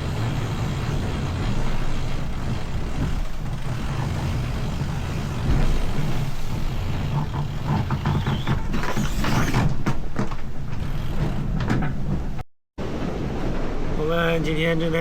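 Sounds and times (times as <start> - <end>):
sailboat rumbling at sea: 0.0 - 15.0
short knocks or creaks: 0.2 - 12.4.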